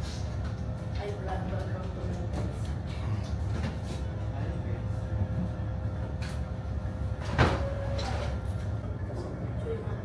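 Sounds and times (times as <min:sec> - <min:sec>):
ferry engines rumbling: 0:00.0 - 0:10.0.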